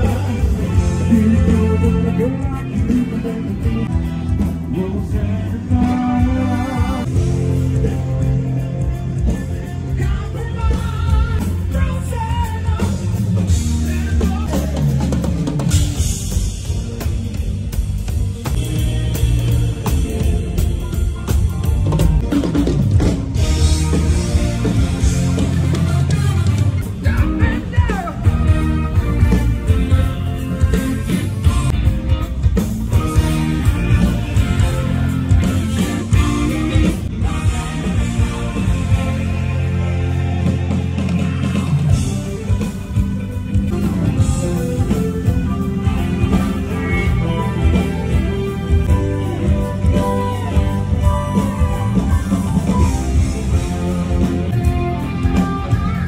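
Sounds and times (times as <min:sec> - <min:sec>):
bass guitar: 0:00.0 - 0:56.0
electric guitar: 0:00.0 - 0:56.0
rock band playing: 0:00.0 - 0:56.0
steady drum beat: 0:00.0 - 0:56.0.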